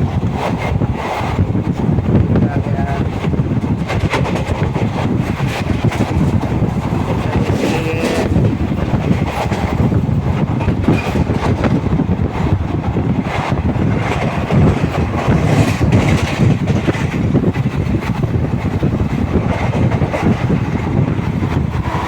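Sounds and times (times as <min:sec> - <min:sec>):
train rumble: 0:00.0 - 0:22.0
wheels clacking over rail joints: 0:00.0 - 0:22.0.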